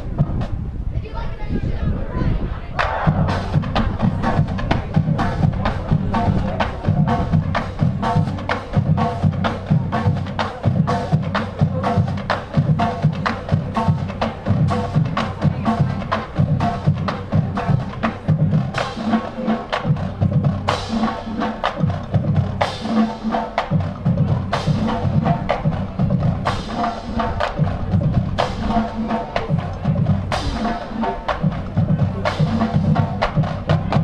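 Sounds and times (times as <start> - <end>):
bass drums: 0.0 - 0.9, 2.4 - 34.0.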